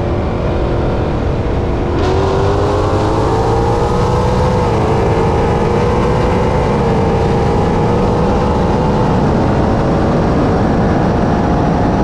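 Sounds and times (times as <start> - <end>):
car engines at full throttle: 0.0 - 12.0
wind and road rush: 0.0 - 12.0.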